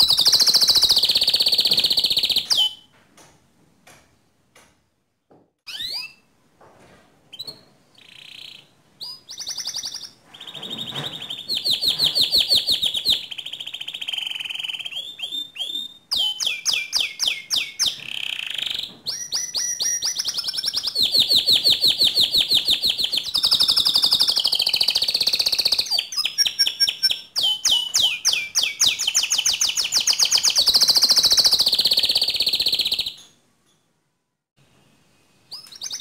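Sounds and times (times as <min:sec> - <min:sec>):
canary trilling: 0:00.0 - 0:02.9, 0:05.7 - 0:06.3, 0:07.3 - 0:33.4, 0:35.5 - 0:36.0.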